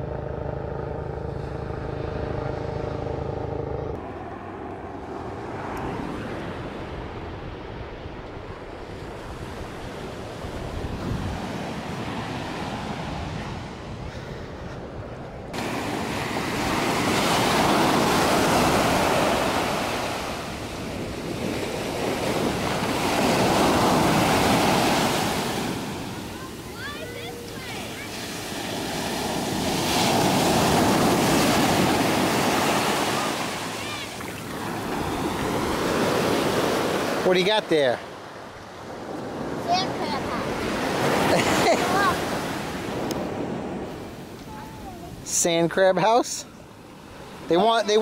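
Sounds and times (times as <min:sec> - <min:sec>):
propeller plane engine droning: 0:00.0 - 0:45.3
waves breaking close by: 0:04.1 - 0:48.0
surf washing on shore: 0:05.4 - 0:48.0.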